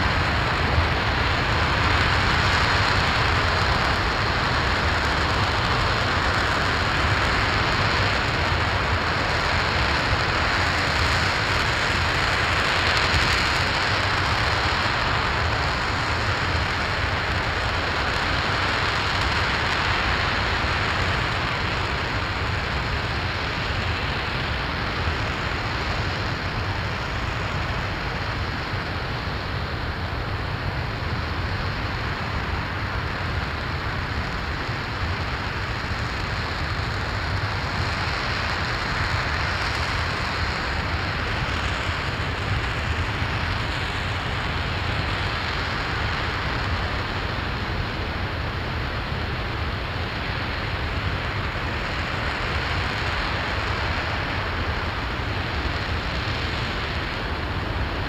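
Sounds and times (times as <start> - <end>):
rocket engine roaring: 0.0 - 58.0.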